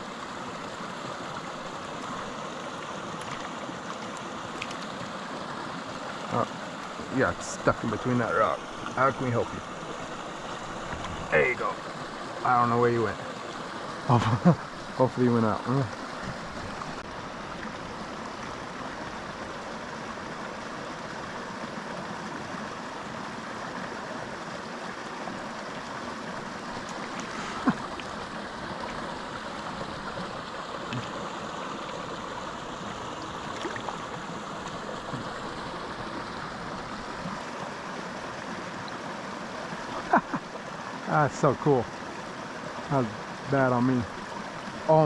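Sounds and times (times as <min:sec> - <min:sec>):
creek rushing over rocks: 0:00.0 - 0:45.0.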